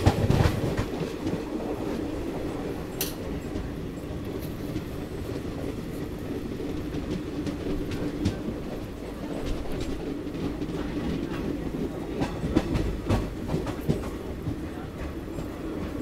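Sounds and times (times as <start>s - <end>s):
train coaches rumbling: 0.0s - 16.0s
wheels clacking over rail joints: 0.0s - 16.0s.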